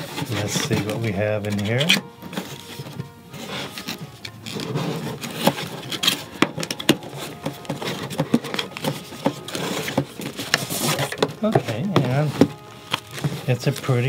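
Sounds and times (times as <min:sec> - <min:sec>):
cardboard scraping and rubbing: 0:00.0 - 0:14.0.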